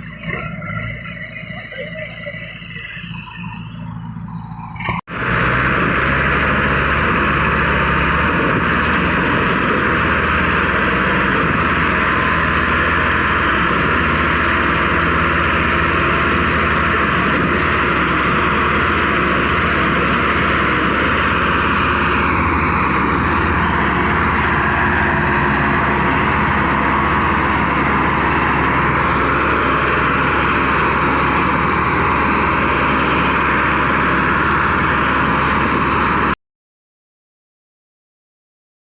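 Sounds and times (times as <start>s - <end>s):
tractor diesel engines droning: 0.0s - 36.4s.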